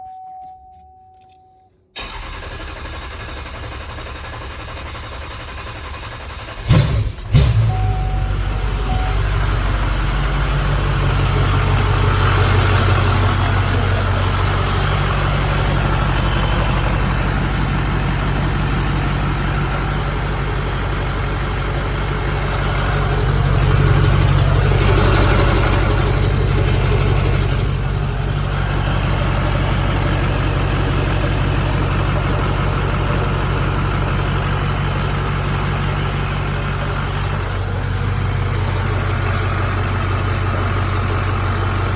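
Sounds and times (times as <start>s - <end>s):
diesel engine idling rough: 2.0s - 41.9s.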